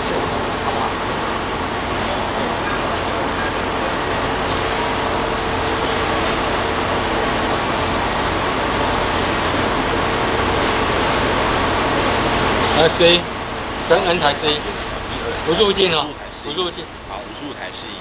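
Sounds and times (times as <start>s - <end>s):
faint constant hum: 0.0s - 18.0s
vehicle engine drone: 0.0s - 18.0s.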